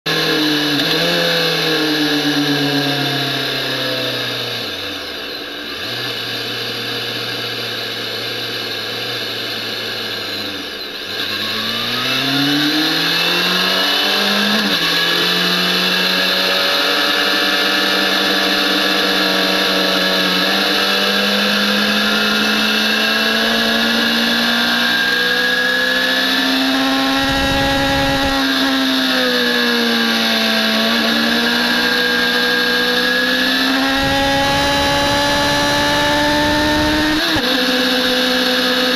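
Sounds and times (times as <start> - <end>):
motorcycle engine revving: 0.1 - 38.9.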